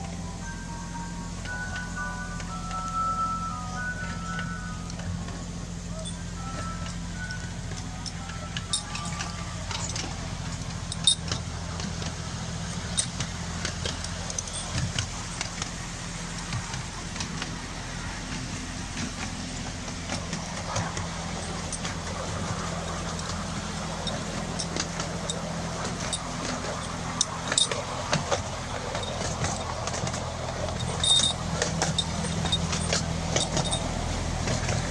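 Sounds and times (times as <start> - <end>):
locomotive low drone: 0.0 - 34.9
wheels clicking on track: 0.0 - 34.9.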